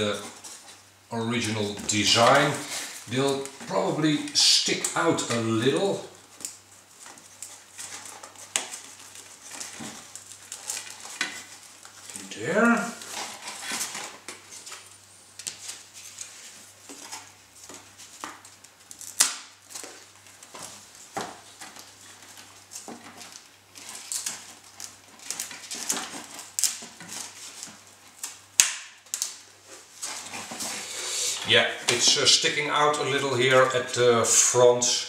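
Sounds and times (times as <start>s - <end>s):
foam parts tapping and rustling: 0.0s - 34.4s.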